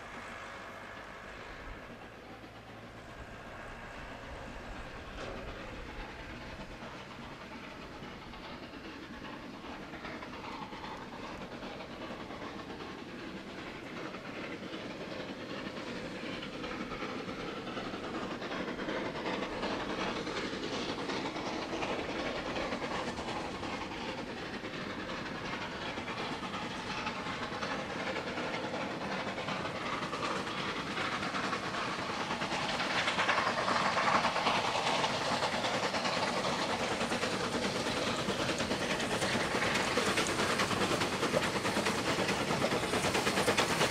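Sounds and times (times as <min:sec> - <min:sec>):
steam hiss: 0:00.0 - 0:43.9
wheels clattering on rails: 0:00.0 - 0:43.9.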